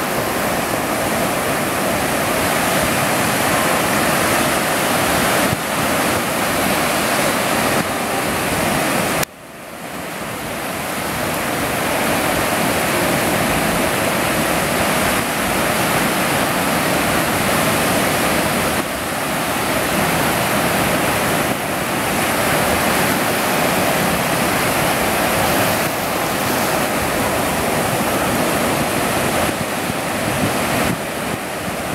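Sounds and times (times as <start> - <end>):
ocean surf breaking: 0.0 - 31.9.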